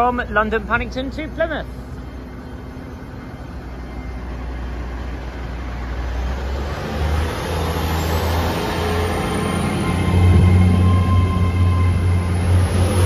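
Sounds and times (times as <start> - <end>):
high rising whine: 0.0 - 13.0
train diesel engine accelerating: 0.0 - 13.0.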